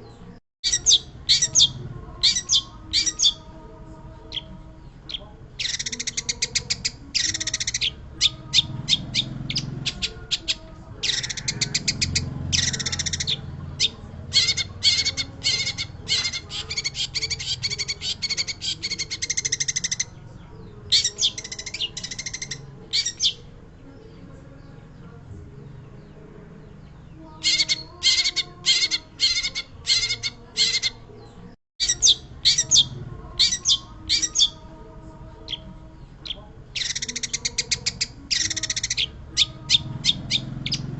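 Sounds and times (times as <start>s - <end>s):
bird singing sharp chattering notes: 0.6s - 3.4s, 4.3s - 23.5s, 26.7s - 31.1s, 31.8s - 34.6s, 35.4s - 40.9s.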